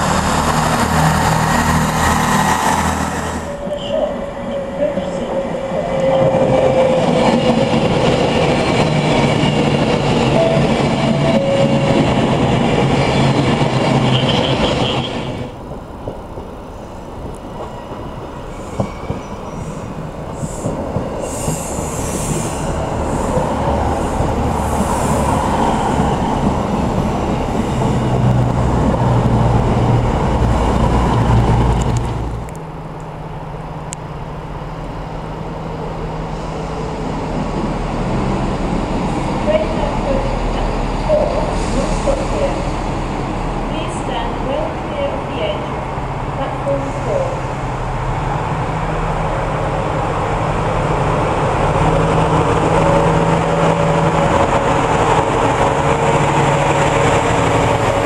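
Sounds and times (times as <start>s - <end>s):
diesel train engine drone: 0.0s - 58.0s
train passing at speed: 0.0s - 58.0s.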